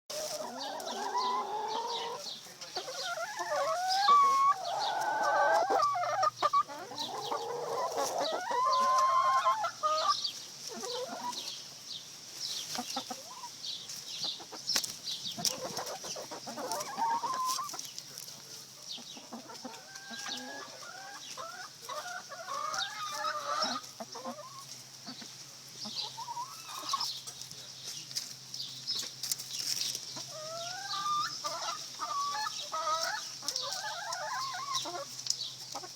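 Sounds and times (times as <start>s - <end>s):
chickens clucking and calling: 0.1s - 35.9s.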